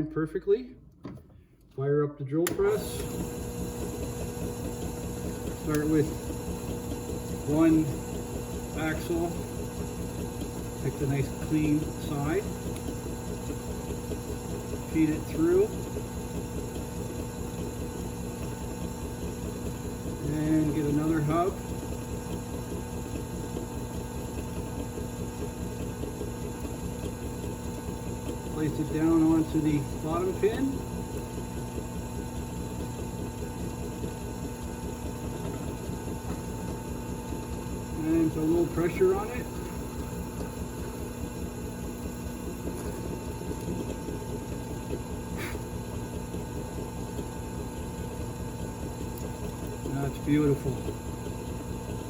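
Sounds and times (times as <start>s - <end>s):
drill press motor running: 2.4s - 52.0s.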